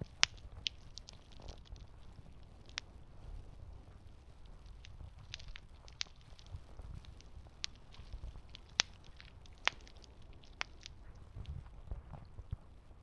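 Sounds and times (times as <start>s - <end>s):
campfire crackling and popping: 0.0s - 12.7s.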